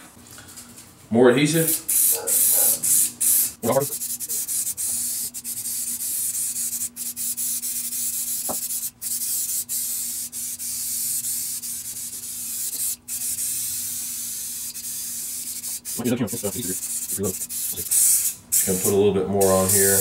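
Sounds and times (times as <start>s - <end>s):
aerosol spray hissing: 1.6s - 20.0s.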